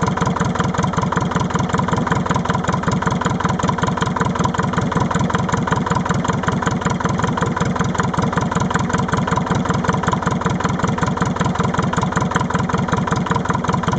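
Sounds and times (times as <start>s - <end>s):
tractor diesel engine idling: 0.0s - 13.9s.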